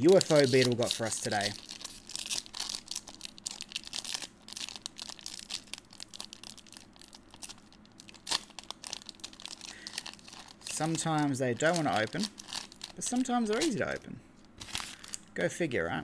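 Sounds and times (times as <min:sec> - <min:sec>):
foil wrapper ripping: 0:00.0 - 0:14.0, 0:14.6 - 0:15.2
foil wrapper crinkling: 0:00.0 - 0:15.3.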